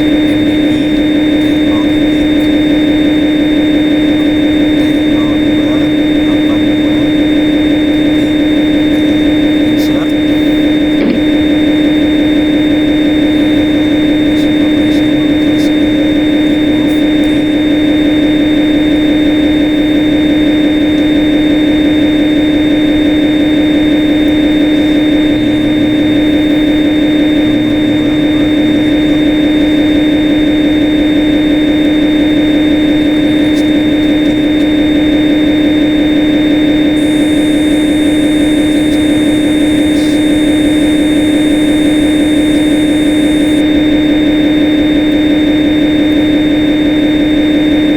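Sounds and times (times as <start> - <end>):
lathe machine drone: 0.0 - 47.9.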